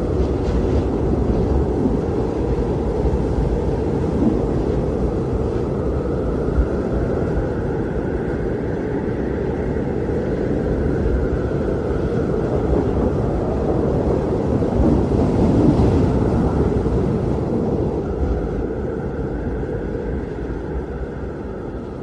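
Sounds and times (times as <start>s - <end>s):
blizzard wind rumbling: 0.0s - 22.0s.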